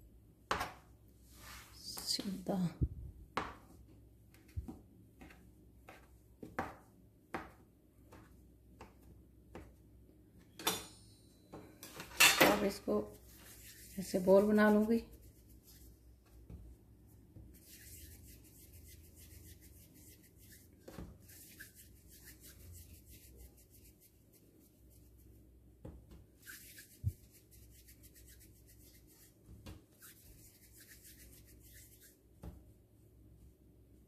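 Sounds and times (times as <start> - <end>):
hands rolling dough: 0.0 - 10.6, 11.5 - 34.0.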